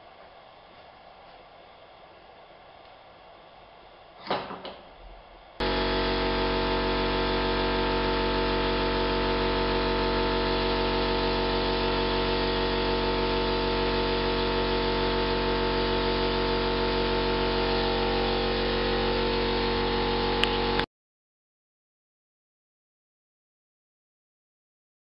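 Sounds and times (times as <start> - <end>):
steady mechanical motor hum: 0.0 - 20.9.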